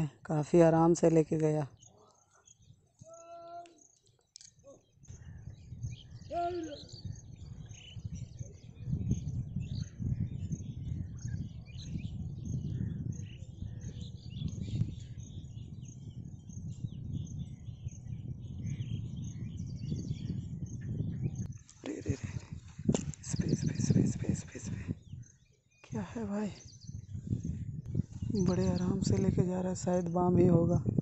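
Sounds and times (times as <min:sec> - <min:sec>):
small birds chirping: 0:00.5 - 0:31.0.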